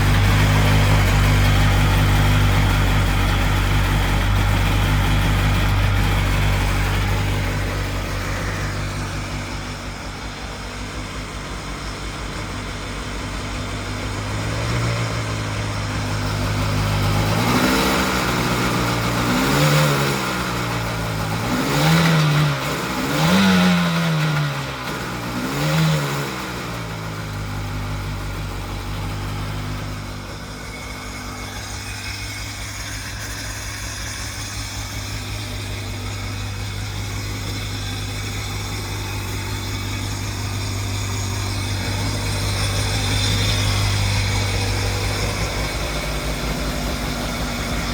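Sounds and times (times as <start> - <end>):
jet boat engine idling and revving: 0.0 - 47.9.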